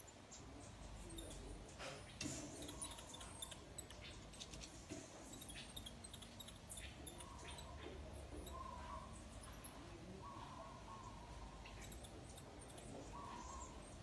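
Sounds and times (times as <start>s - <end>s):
baby marmoset squeaking: 0.9s - 14.0s.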